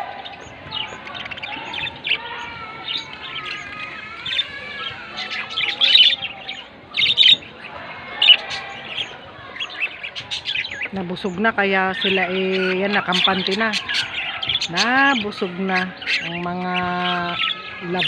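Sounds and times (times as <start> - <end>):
parakeets chirping and chattering: 0.0 - 18.0.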